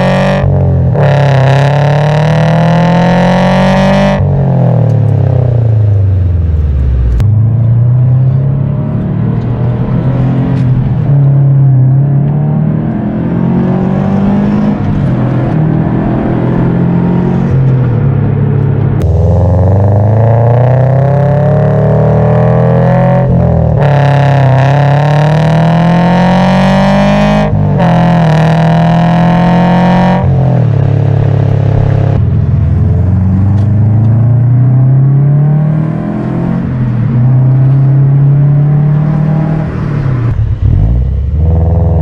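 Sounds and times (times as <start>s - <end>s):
car engine accelerating hard: 0.0s - 42.0s.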